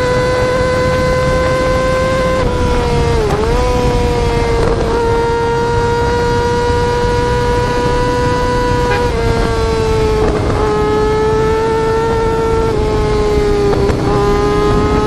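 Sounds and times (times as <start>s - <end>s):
motorcycle engine screaming: 0.0s - 15.0s.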